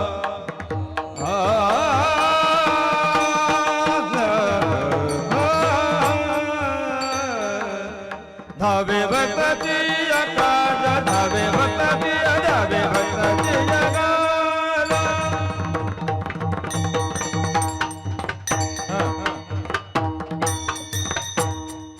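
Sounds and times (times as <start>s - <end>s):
mridang drumming: 0.0s - 21.9s
sustained devotional melody: 0.0s - 21.9s.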